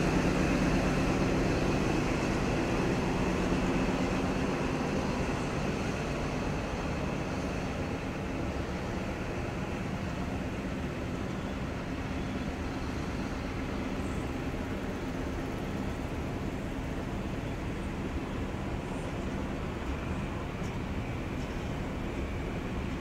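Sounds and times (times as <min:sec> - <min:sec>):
diesel engine hum: 0:00.0 - 0:23.0
train carriages rumbling on rails: 0:00.0 - 0:23.0.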